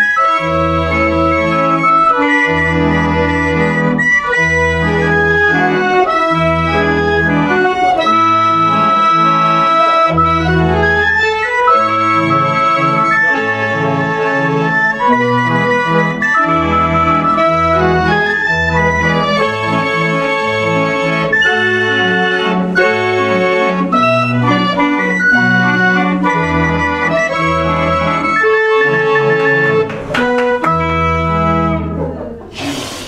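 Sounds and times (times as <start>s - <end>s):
barrel organ playing a tune: 0.0s - 32.3s.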